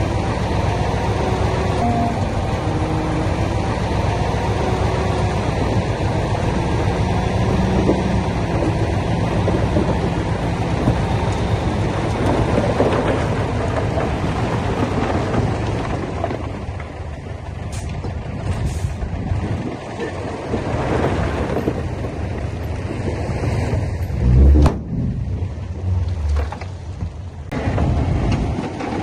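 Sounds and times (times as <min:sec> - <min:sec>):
diesel machine engine clattering: 0:00.0 - 0:29.0.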